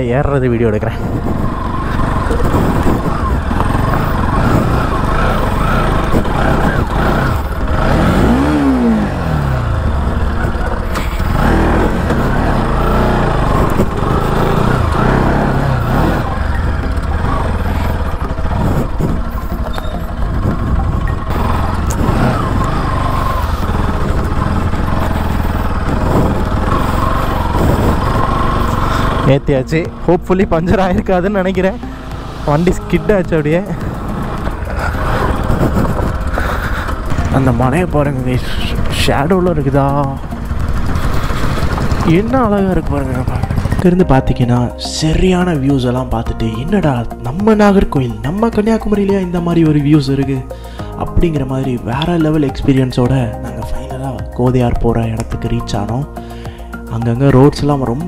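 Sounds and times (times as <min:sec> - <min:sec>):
motorcycle engine revving: 0:00.0 - 0:58.0
rear wheel skidding: 0:00.0 - 0:58.0.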